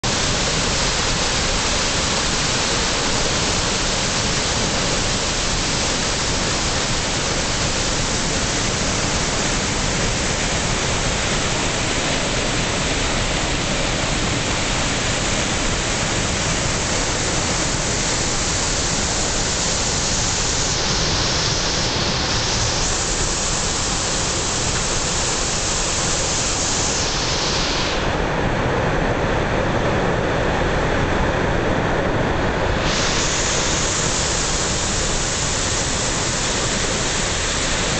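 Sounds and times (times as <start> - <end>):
waterfall rushing: 0.0 - 28.5, 32.4 - 37.9.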